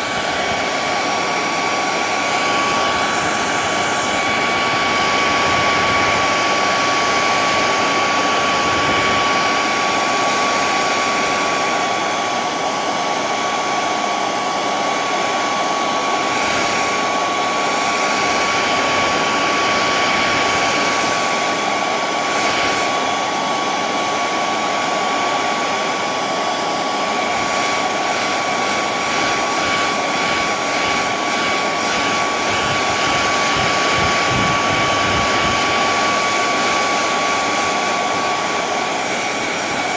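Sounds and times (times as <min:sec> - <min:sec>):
electric blower motor whine: 0:00.0 - 0:39.9.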